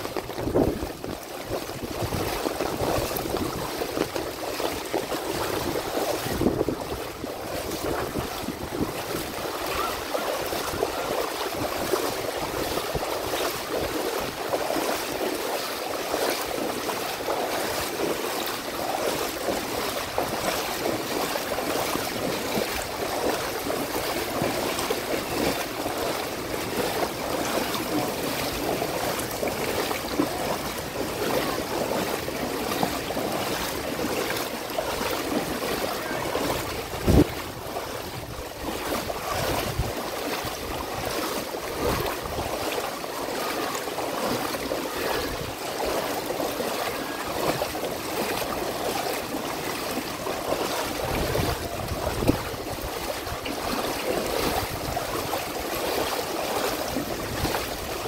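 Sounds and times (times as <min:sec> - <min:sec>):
water rushing through street: 0:00.0 - 0:58.0.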